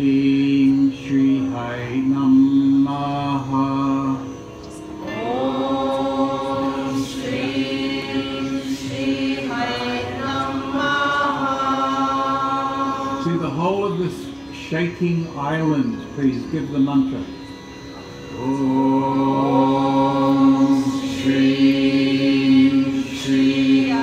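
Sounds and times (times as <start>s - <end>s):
low drone: 0.0s - 24.0s
voices chanting mantra: 0.0s - 24.0s.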